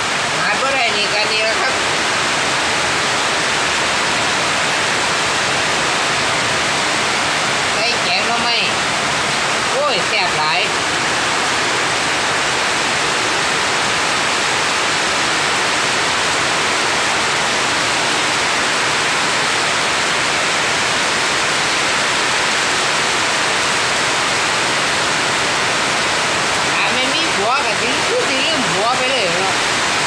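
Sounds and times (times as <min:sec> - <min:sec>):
loud steady rushing hiss: 0:00.0 - 0:30.0.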